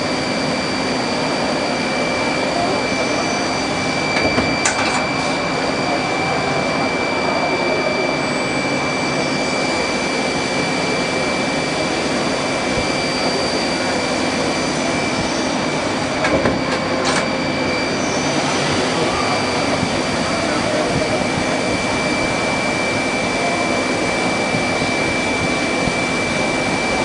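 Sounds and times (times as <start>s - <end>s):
lathe running with high whine: 0.0s - 27.0s.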